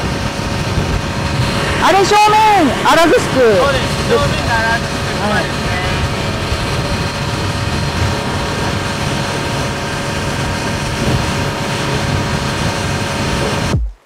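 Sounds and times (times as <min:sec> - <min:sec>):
motorboat engine drone: 0:00.0 - 0:14.0
wind and water rushing: 0:00.0 - 0:14.0.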